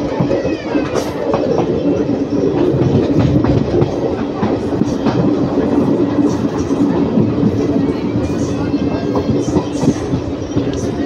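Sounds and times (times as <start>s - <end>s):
train rumble on board: 0.0s - 11.0s
wheels clicking over rail joints: 0.0s - 11.0s.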